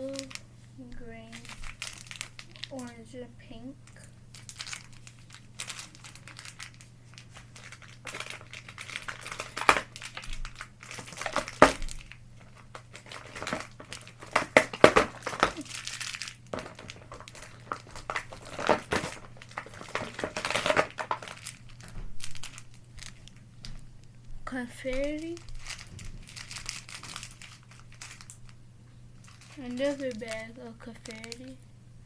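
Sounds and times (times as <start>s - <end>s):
plastic bags crinkling: 0.0s - 3.1s, 3.8s - 31.7s.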